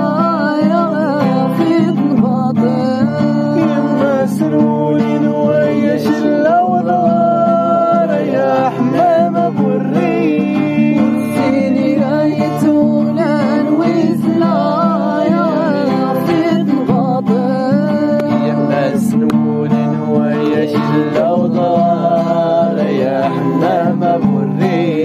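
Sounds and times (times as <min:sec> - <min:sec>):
acoustic guitar: 0:00.0 - 0:25.0
person singing: 0:00.0 - 0:25.0.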